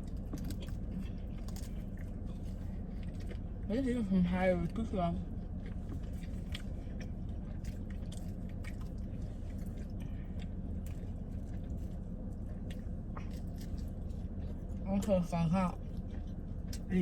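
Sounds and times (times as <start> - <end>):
person chewing pizza: 0.0 - 17.0
steady low hum: 0.0 - 17.0.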